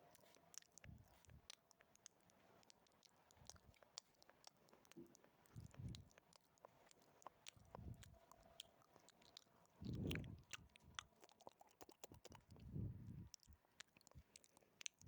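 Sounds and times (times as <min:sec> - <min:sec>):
wet mouth clicks and smacks: 0:00.1 - 0:15.0.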